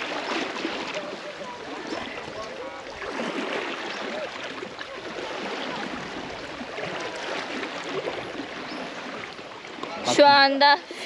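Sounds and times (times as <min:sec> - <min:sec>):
water splashing around elephants: 0:00.0 - 0:11.0.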